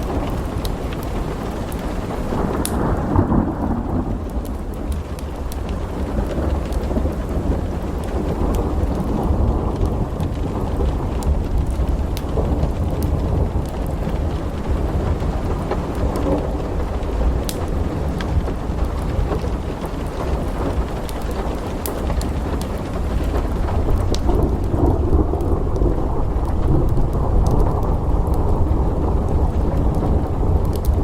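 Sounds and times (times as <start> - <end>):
rolling rumble of thunder: 0.0 - 31.0
sharp crackles: 0.0 - 31.0
steady rain: 0.0 - 31.0.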